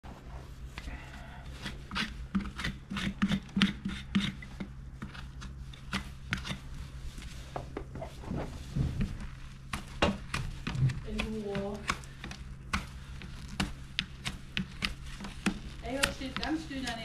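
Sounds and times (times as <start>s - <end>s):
low hum: 0.0s - 17.0s
hoof knife scraping: 1.1s - 17.0s.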